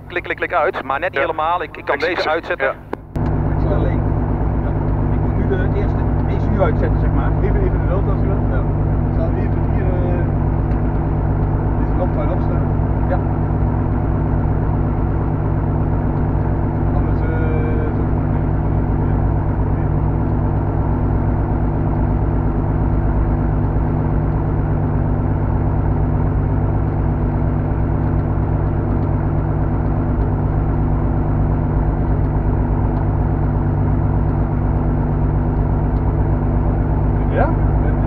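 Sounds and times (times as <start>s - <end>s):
aircraft engine and propeller idling: 0.0s - 38.0s.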